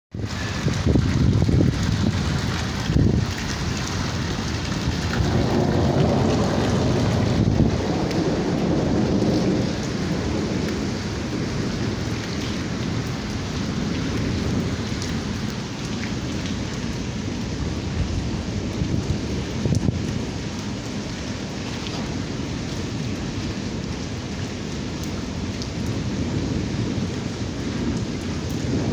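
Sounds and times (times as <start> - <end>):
heavy rain pouring: 0.1 - 28.9
thunder rumbling: 0.2 - 28.9.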